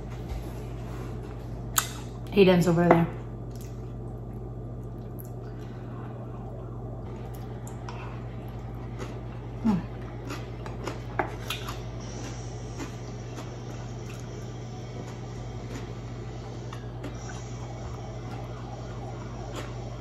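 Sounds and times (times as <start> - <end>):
steady low hum: 0.0 - 20.0
person chewing wetly: 3.5 - 20.0.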